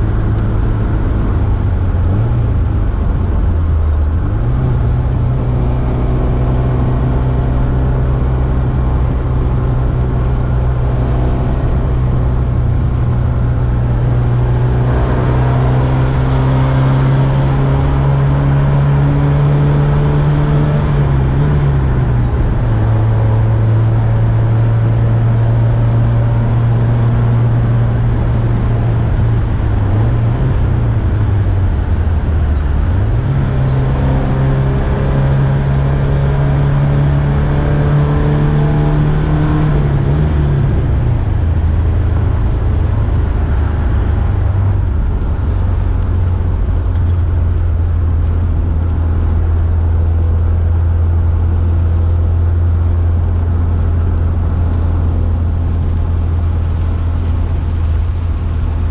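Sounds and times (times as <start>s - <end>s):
car engine from inside cabin: 0.0s - 58.9s.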